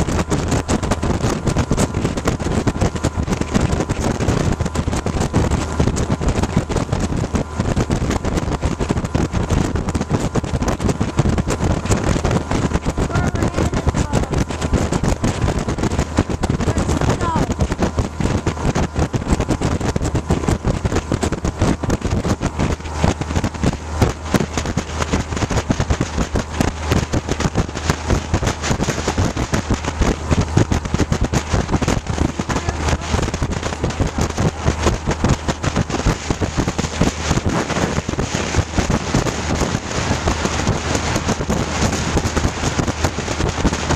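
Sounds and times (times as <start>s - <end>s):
boat motor drone: 0.0s - 43.9s
wind buffeting microphone: 0.0s - 43.9s.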